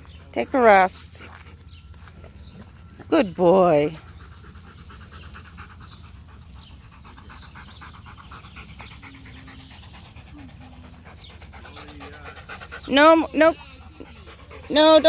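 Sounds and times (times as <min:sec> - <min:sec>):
dog panting fast: 0:01.2 - 0:15.0.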